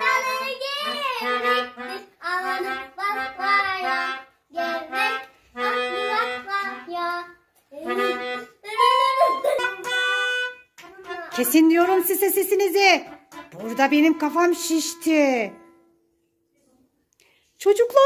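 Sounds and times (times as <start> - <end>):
melodica playing a tune: 0.0 - 7.2, 7.8 - 16.1.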